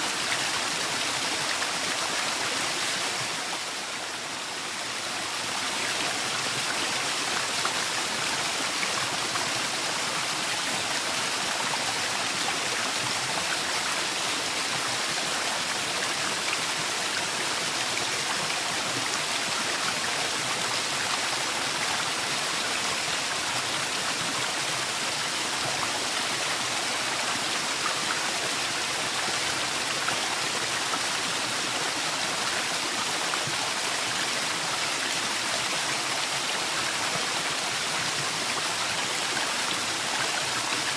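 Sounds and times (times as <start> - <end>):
waterfall pouring and splashing: 0.0 - 40.9.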